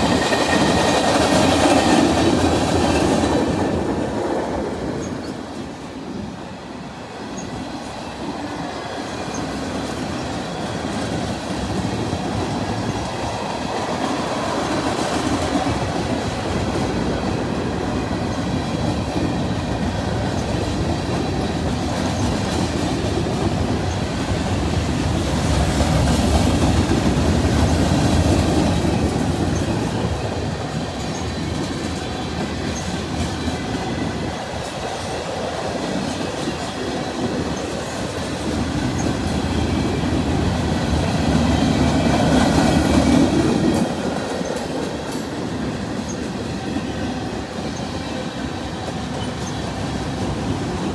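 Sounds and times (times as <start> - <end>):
train wheels clattering on rail: 0.0 - 50.9.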